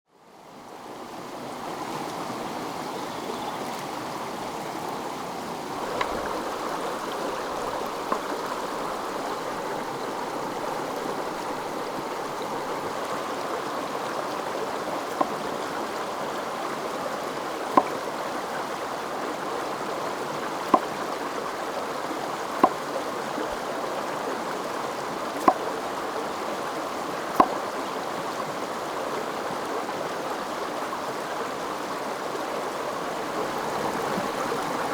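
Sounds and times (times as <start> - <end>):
stream rushing: 0.1 - 34.9.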